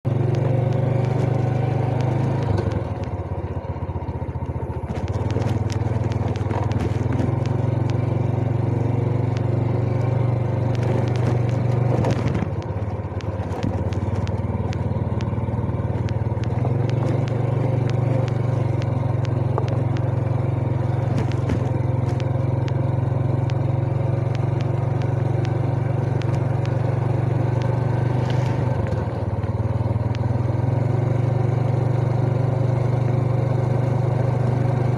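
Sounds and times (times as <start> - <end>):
knocks and crackles from riding: 0.1 - 34.9
motorcycle engine running: 0.1 - 34.9.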